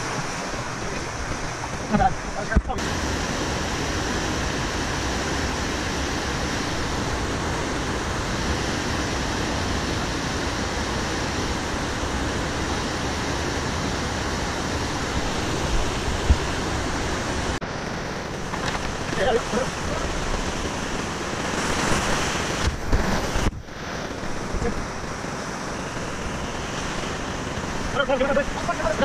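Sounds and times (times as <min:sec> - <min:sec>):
whitewater rapid rushing: 0:00.0 - 0:29.0.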